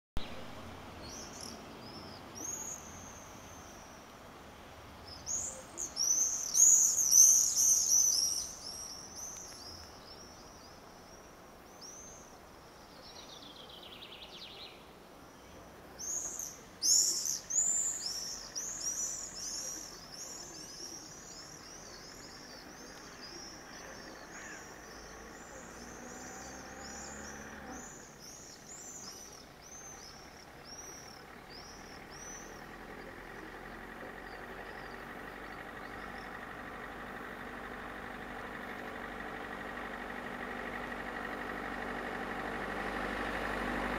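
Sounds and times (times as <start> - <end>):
small birds chirping: 0.2 - 4.3, 4.9 - 43.6
outdoor background hiss: 0.2 - 43.9.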